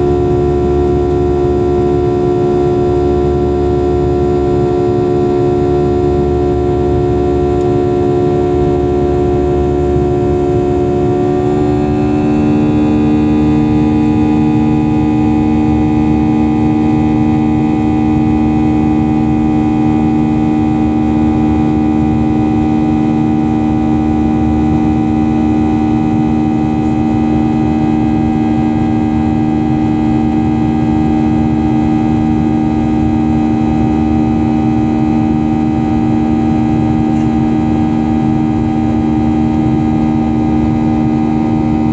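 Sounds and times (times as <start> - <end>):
jet engine cabin drone: 0.0 - 41.9.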